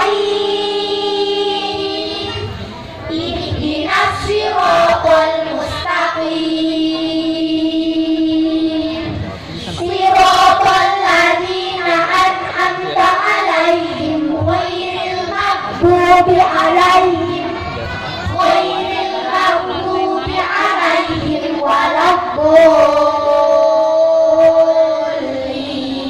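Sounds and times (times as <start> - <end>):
children singing over pa system: 0.0 - 26.0.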